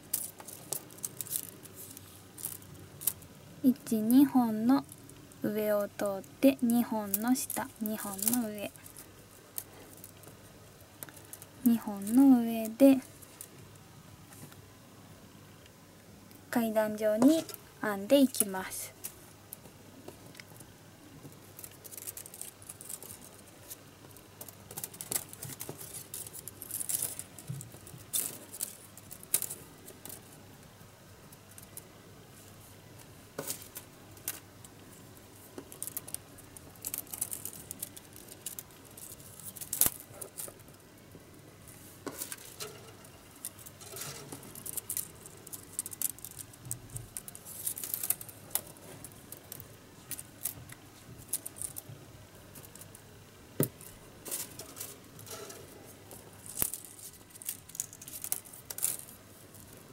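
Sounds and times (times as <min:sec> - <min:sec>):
bamboo strips clicking and rustling: 0:00.0 - 0:14.6, 0:16.4 - 0:59.9.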